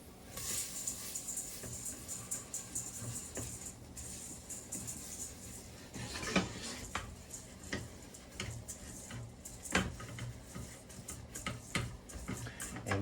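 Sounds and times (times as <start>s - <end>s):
utensil stirring rice in skillet: 0.0s - 13.0s.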